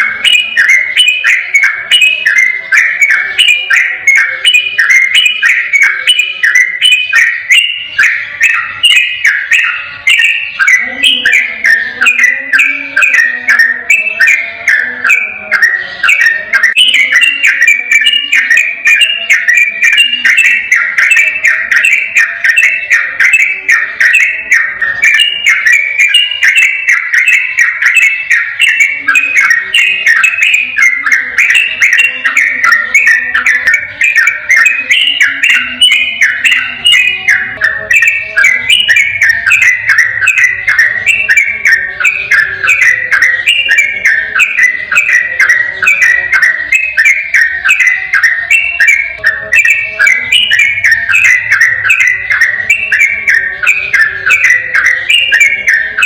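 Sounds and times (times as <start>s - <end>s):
bird singing rapid whistled notes: 0.0s - 56.0s.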